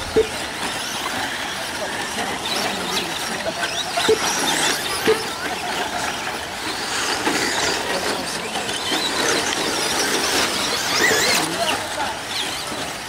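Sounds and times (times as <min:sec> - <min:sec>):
rc truck motors whining: 0:00.0 - 0:13.0.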